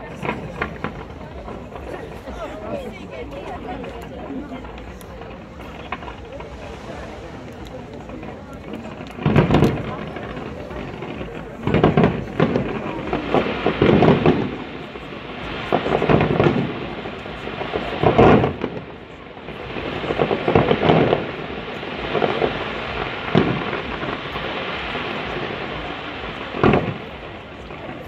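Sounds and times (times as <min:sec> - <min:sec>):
fireworks booming: 0:00.0 - 0:28.0
rolling rumble: 0:00.0 - 0:28.0.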